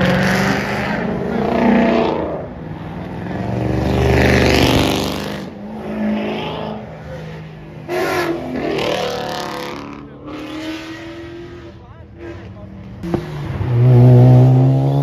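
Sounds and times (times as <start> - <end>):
cars accelerating hard past: 0.0 - 15.0.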